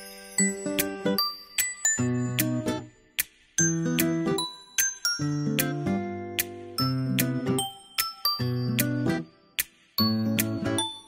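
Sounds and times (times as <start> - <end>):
tinkling jingle accent: 0.0 - 6.1, 6.8 - 11.0
light background music tune: 0.0 - 11.0.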